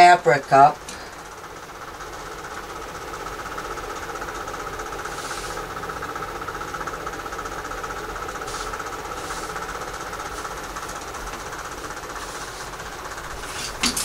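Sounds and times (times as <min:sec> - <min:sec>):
machine hum with flutter: 0:00.0 - 0:14.0.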